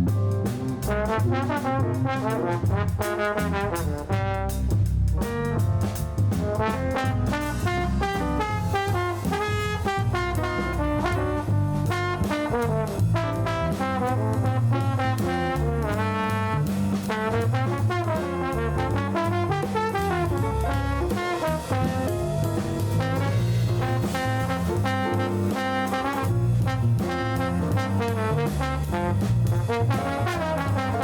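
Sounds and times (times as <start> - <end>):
jazzy brass band music: 0.0 - 31.0.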